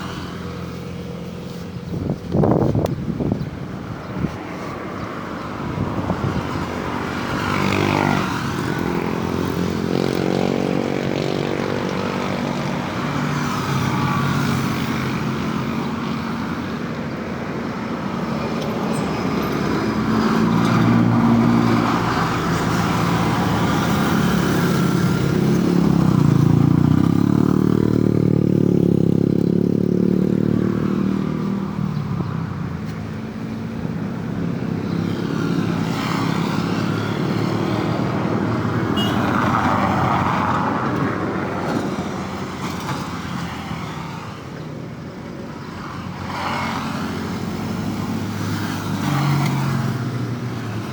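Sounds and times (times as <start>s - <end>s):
vehicles passing by: 0.0s - 50.9s.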